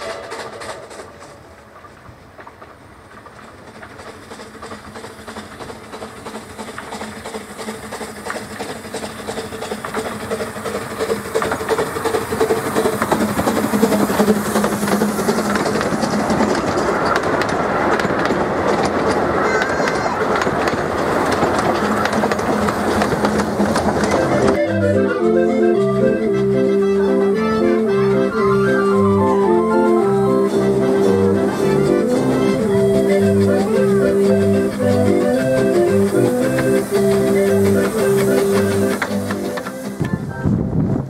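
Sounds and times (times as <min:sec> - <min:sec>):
steam train passing: 0:00.0 - 0:41.0
wheels clicking over rail joints: 0:00.0 - 0:41.0
hiss of steam: 0:03.0 - 0:18.3, 0:19.4 - 0:41.0.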